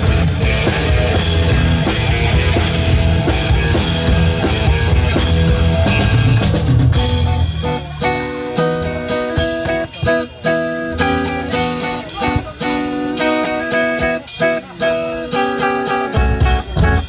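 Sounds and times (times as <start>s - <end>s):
electric guitar chords: 0.0s - 17.0s
live rock band playing: 0.0s - 17.0s.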